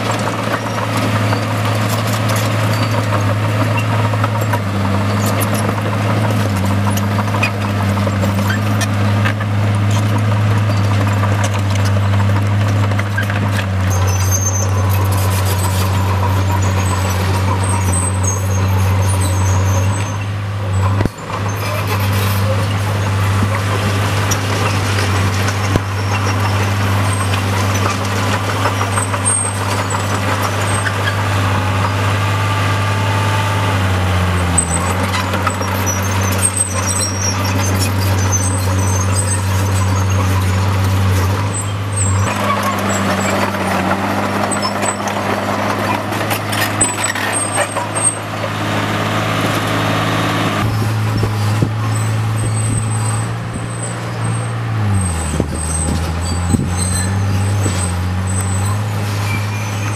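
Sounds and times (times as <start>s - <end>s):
bulldozer diesel engine under load: 0.0s - 59.9s
bulldozer pushing earth and rock: 0.0s - 59.9s.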